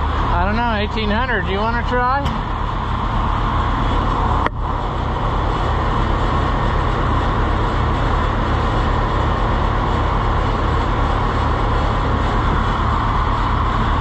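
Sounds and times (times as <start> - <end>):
tractor engines idling: 0.0 - 14.0.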